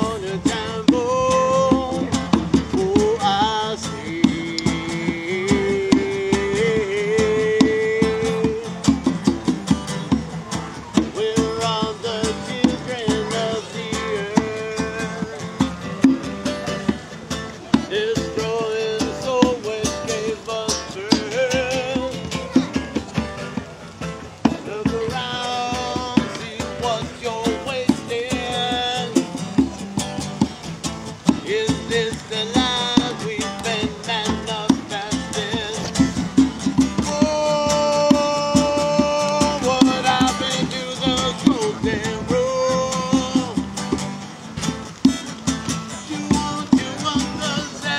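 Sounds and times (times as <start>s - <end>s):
acoustic guitar strumming: 0.0s - 47.9s
hand drum beating: 0.0s - 47.9s.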